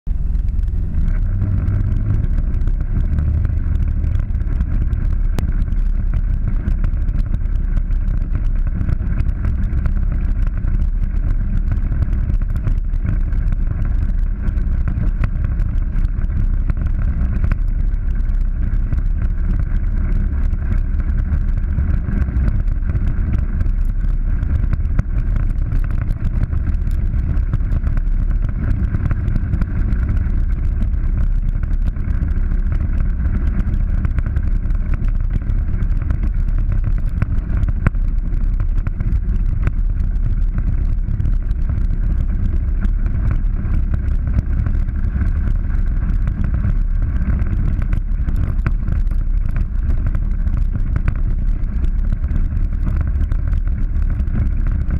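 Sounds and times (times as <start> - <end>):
vehicle engine drone: 0.0 - 54.9
wind noise on microphone: 0.0 - 54.9
small ticks and knocks: 0.3 - 54.9.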